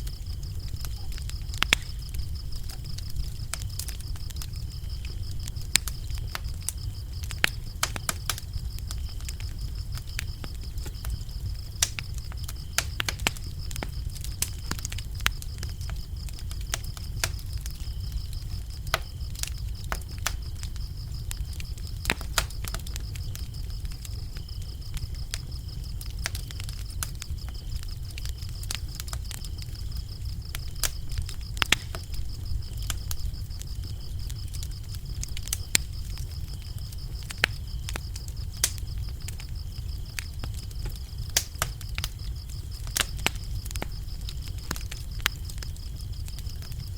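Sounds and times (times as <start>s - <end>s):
crickets chirping: 0.0s - 46.9s
wood fire crackling: 0.0s - 46.9s.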